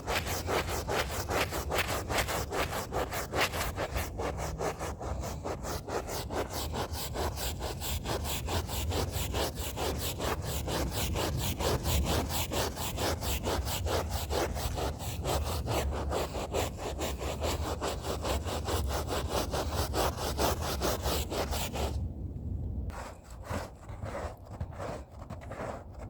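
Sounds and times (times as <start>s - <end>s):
brush scrubbing a rug: 0.0s - 22.0s, 22.9s - 26.0s.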